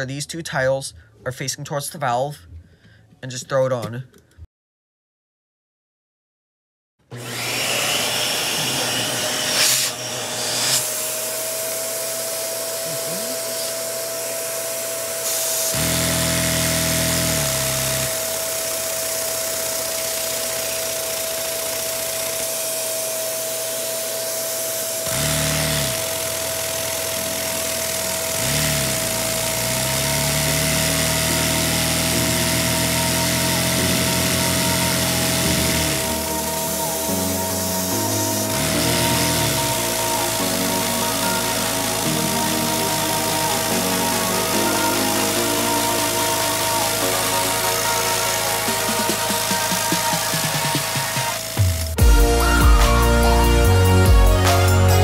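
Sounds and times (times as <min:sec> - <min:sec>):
vacuum cleaner running: 0:07.0 - 0:53.9.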